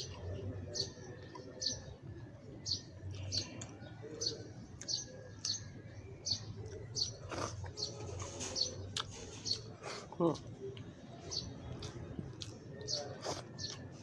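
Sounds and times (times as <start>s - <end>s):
soft clicks and rustles of eating: 0.0s - 14.0s.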